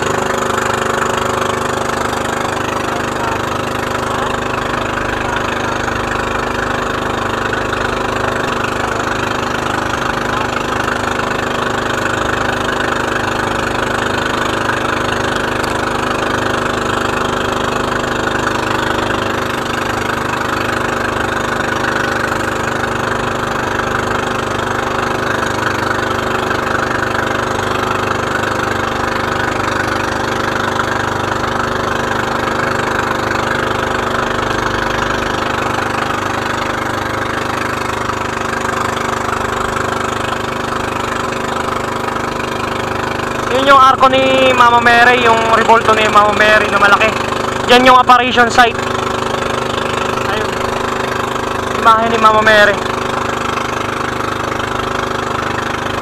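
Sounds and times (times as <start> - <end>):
boat engine running: 0.0 - 56.0
water rushing past hull: 0.0 - 56.0.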